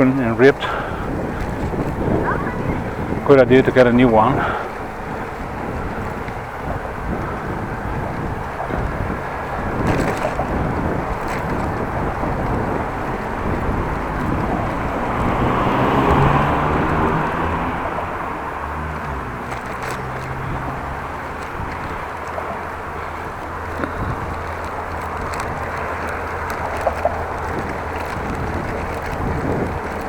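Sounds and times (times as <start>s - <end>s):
motor vehicle passing: 0.0s - 30.0s
road traffic noise: 0.0s - 30.0s.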